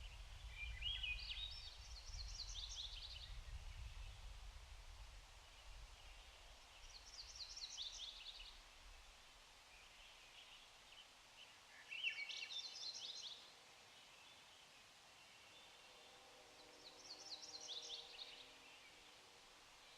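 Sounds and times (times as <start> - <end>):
songbird singing: 0.0 - 4.3, 5.4 - 19.9
faint background noise: 0.0 - 19.9.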